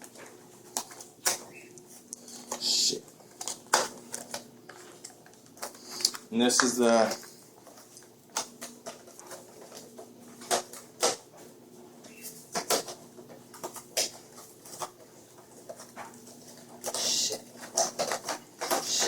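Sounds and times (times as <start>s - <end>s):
packaging crinkling and clicking: 0.0s - 11.2s, 12.3s - 19.0s
faint steady hum: 0.0s - 19.0s.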